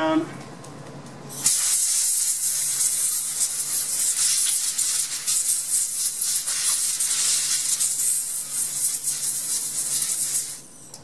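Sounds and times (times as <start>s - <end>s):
air blow gun hissing: 1.4s - 10.6s.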